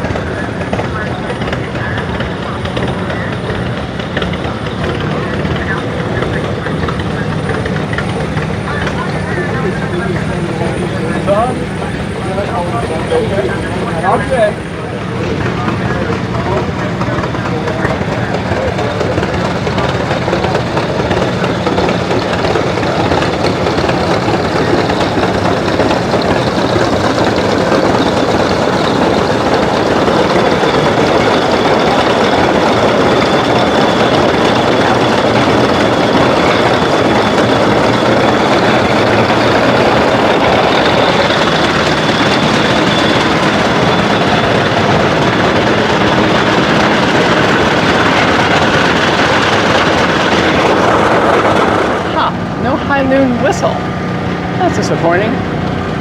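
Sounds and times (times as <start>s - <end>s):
engines running with hiss: 0.0s - 56.0s.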